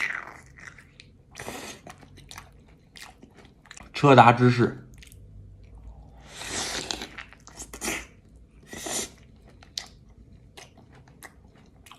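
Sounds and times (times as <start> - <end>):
person chewing: 0.0 - 4.0, 4.9 - 11.9.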